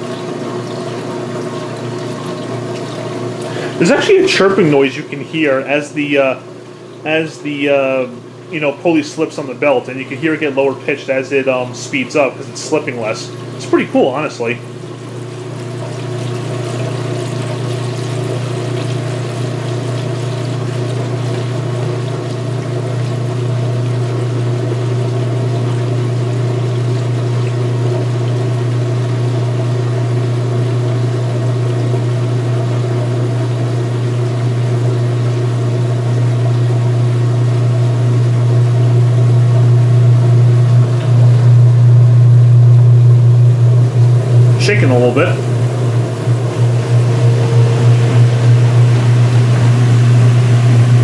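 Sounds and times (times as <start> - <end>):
washing machine motor humming: 0.0 - 51.0
water draining: 0.0 - 51.0.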